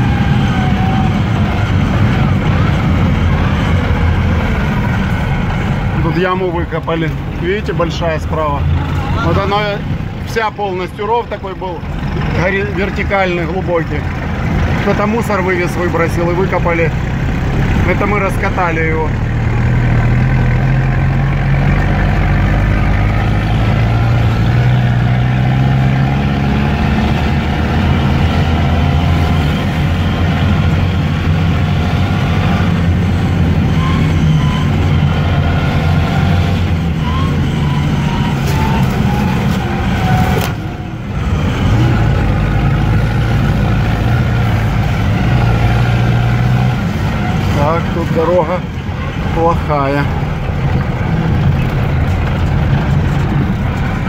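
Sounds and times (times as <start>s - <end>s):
vehicle engine under load: 0.0s - 54.0s.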